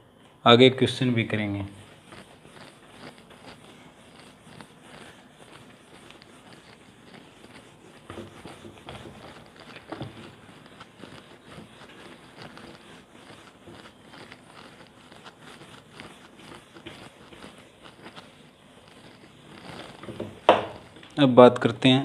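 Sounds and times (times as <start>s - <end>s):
eraser scrubbing whiteboard: 0.8s - 22.0s.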